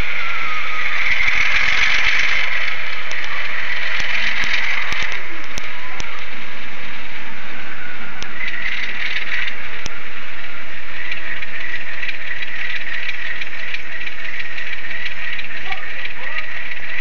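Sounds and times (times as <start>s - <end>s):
rapid light ticking: 0.0s - 7.2s, 8.2s - 17.0s
model train motor whirring: 0.0s - 17.0s.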